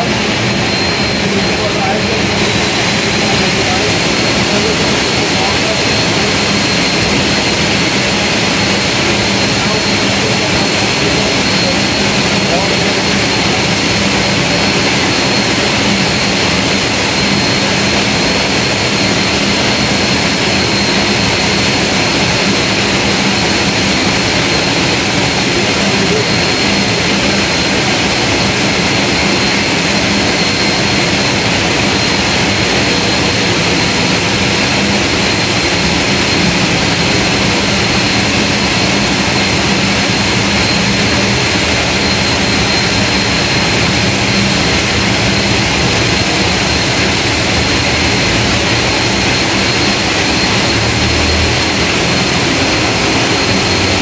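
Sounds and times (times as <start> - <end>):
turboprop engine running: 0.0 - 54.0.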